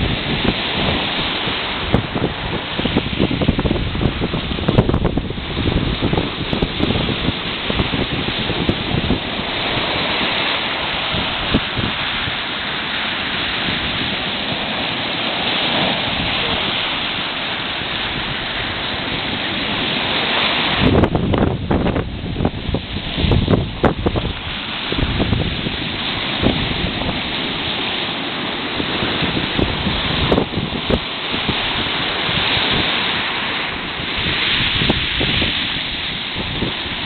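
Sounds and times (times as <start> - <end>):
sea surf washing on shore: 0.0 - 37.0
wind buffeting microphone: 0.0 - 37.0.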